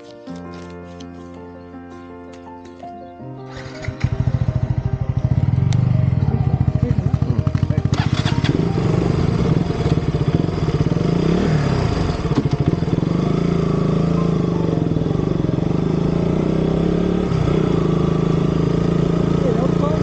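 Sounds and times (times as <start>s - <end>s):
motorcycle engine pulling away: 3.5s - 20.0s.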